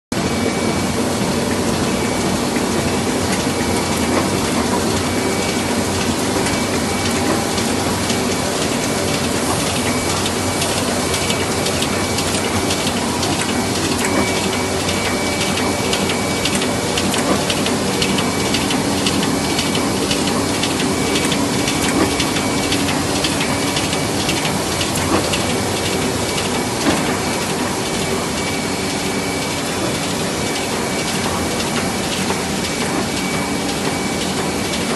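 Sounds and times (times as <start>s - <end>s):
printing press clattering: 0.1s - 34.9s.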